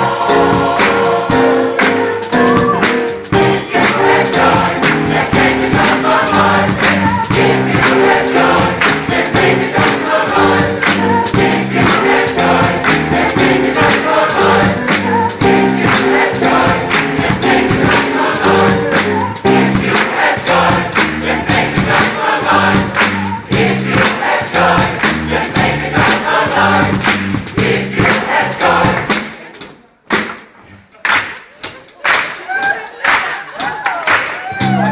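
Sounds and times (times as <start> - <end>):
choir singing gospel: 0.0 - 29.8
band with driving beat: 0.0 - 30.6, 31.2 - 34.9.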